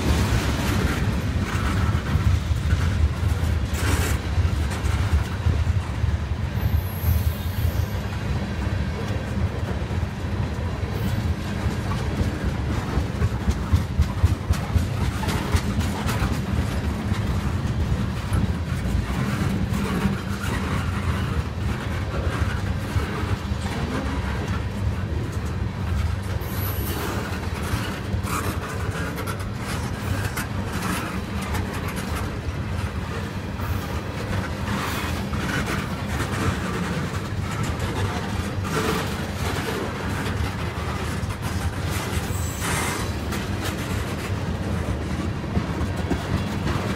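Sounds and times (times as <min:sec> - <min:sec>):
freight train rumbling: 0:00.0 - 0:46.9
train wheels clicking over rail joints: 0:00.0 - 0:46.9.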